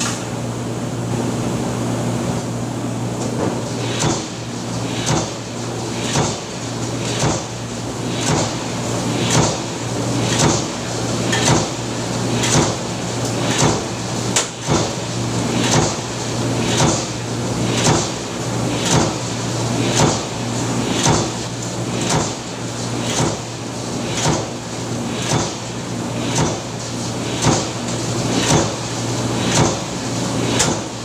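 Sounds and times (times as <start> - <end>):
power press stamping clatter: 3.3 - 31.0.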